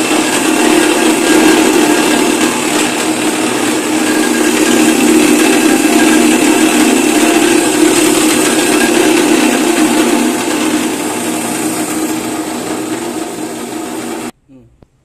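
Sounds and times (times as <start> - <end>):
grinding machine humming: 0.0 - 14.4.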